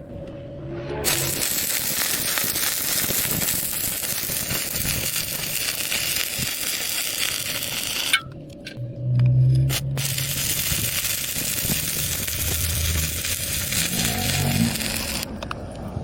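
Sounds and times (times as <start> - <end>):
welding arc crackling: 1.0 - 8.2, 9.7 - 15.4.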